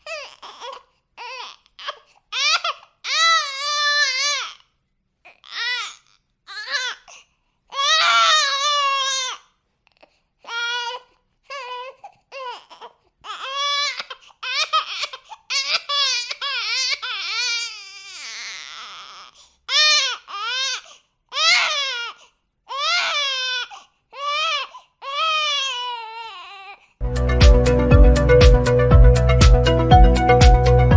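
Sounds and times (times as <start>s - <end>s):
baby crying: 0.0s - 4.7s, 5.3s - 9.5s, 10.4s - 27.0s.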